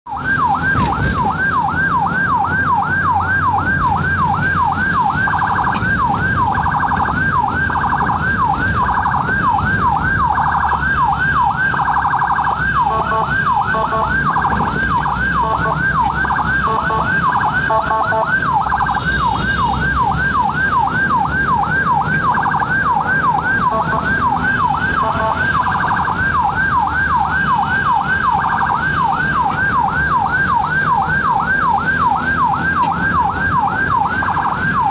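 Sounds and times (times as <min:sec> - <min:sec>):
ambulance siren yelping: 0:00.1 - 0:34.9
vehicle engine and road noise: 0:00.1 - 0:34.9.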